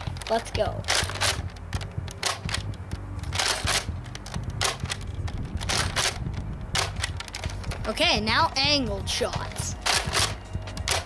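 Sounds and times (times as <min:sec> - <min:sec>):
plastic blaster pumping and firing: 0:00.0 - 0:02.7, 0:03.3 - 0:07.9, 0:09.3 - 0:11.0
low wind rumble on microphone: 0:01.4 - 0:11.0.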